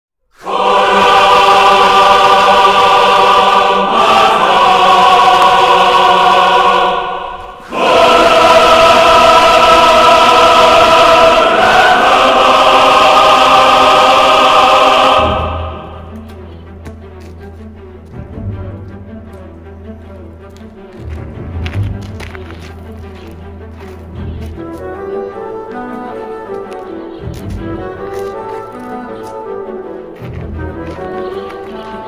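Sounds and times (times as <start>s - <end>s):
choir singing sustained chords: 0.3s - 32.0s.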